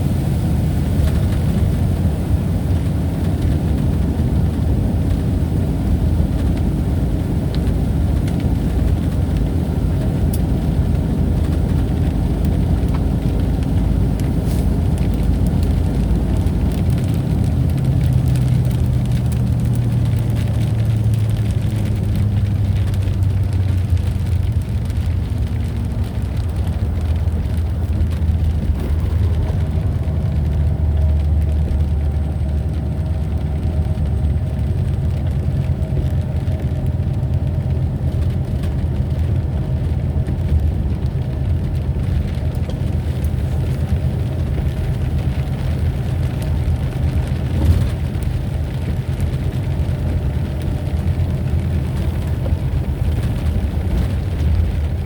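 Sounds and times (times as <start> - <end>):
deep thunder rumble: 0.0 - 55.0.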